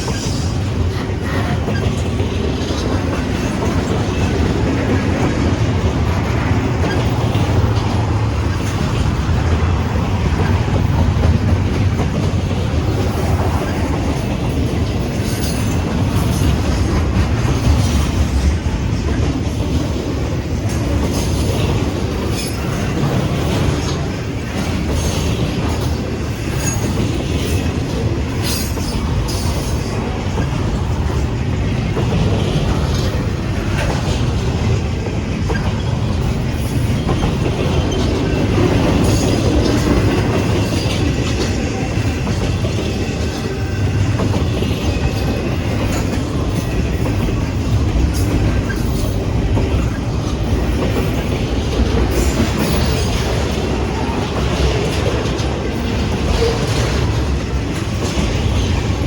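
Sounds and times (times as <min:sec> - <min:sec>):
freight train cars rolling: 0:00.0 - 0:59.0
wheels clicking over rail joints: 0:00.0 - 0:59.0.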